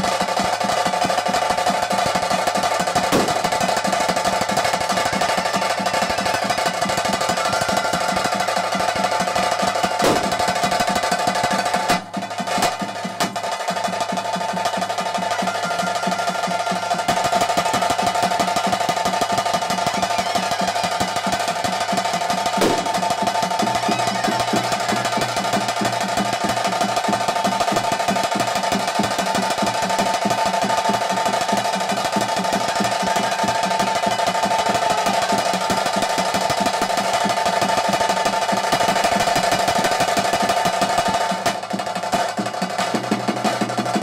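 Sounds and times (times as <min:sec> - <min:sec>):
fast ritual drumming: 0:00.0 - 0:44.0.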